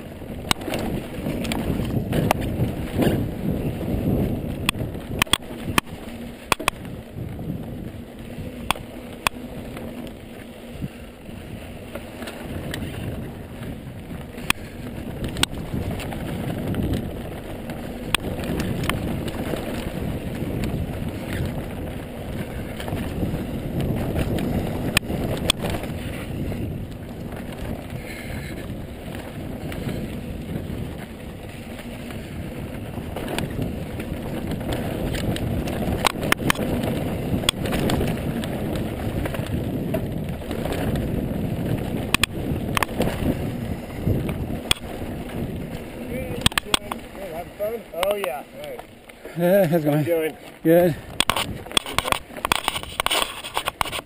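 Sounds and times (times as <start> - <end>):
bike clicks and rattles: 0.0 - 54.0
bike tyre rumble on dirt: 0.0 - 54.0
wind buffeting microphone: 0.0 - 54.0.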